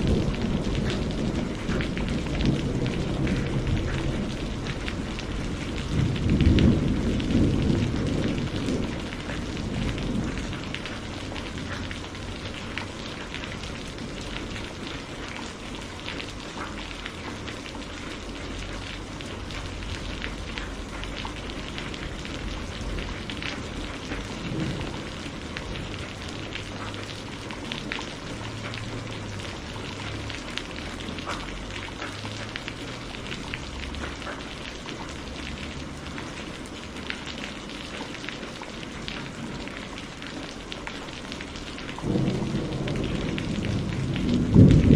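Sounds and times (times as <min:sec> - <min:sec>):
thunder rumble: 0:00.0 - 0:17.5, 0:18.1 - 0:34.3, 0:41.4 - 0:44.9
rain falling: 0:00.0 - 0:44.9.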